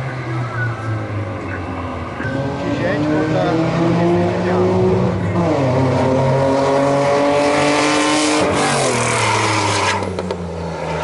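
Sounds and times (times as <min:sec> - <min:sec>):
car engines revving high: 0:00.0 - 0:11.0.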